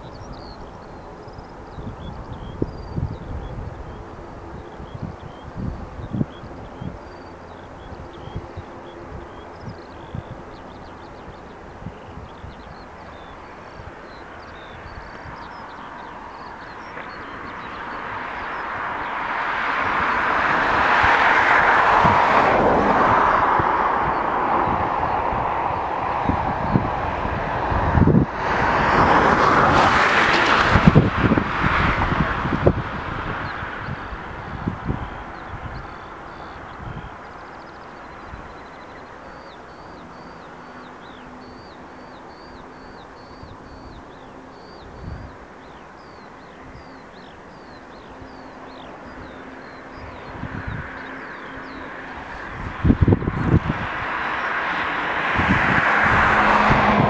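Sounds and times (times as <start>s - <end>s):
bird singing: 0.0s - 28.2s, 28.8s - 56.6s
jet airliner passing: 0.0s - 57.0s.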